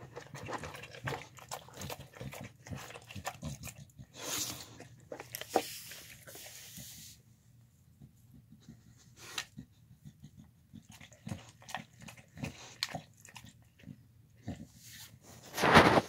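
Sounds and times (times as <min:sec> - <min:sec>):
dog chewing wet food: 0:00.0 - 0:06.6, 0:08.4 - 0:14.8.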